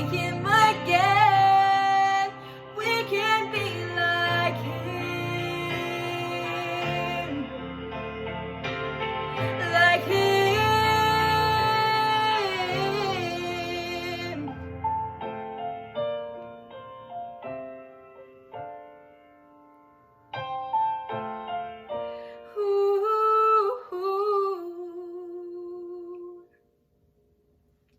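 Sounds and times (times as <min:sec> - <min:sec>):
piano chords: 0:00.0 - 0:25.9.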